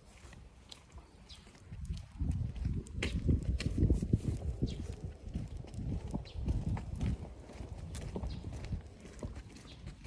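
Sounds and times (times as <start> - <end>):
footsteps on asphalt: 0.0 - 10.0.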